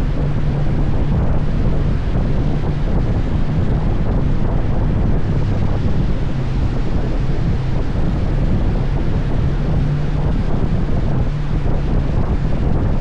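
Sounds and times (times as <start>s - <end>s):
motorcycle engine hum: 0.0s - 13.0s
wind buffeting microphone: 0.0s - 13.0s.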